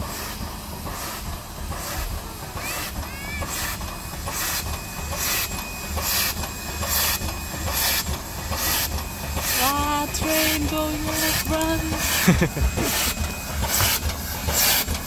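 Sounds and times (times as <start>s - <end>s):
low train rumble: 0.0s - 15.0s
steam locomotive chuffing: 0.0s - 15.0s.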